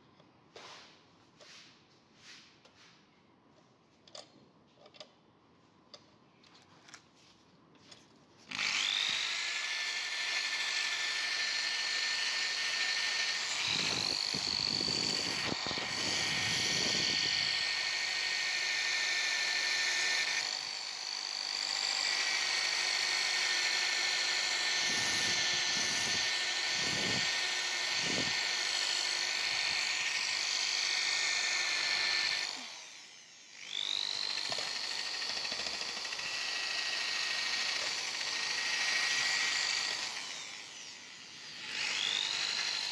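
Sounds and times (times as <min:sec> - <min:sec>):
electric drill motor whining: 0:08.4 - 0:42.9.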